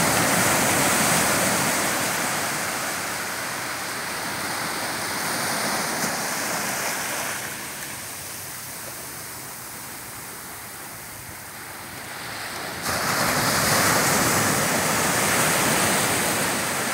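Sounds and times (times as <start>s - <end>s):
ocean waves breaking: 0.0s - 16.9s.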